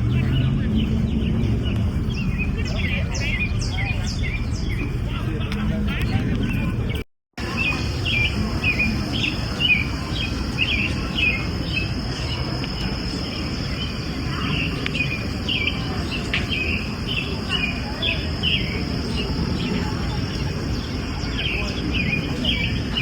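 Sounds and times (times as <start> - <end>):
bird chirping: 0.0 - 5.0, 5.9 - 23.0.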